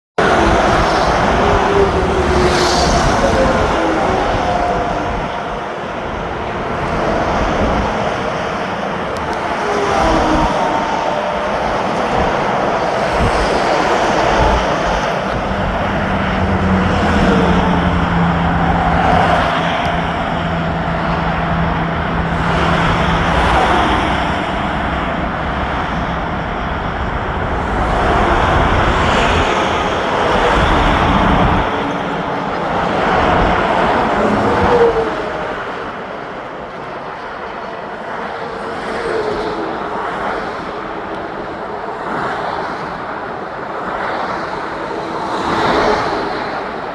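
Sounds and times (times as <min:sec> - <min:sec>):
airplane engines landing: 0:00.2 - 0:46.9.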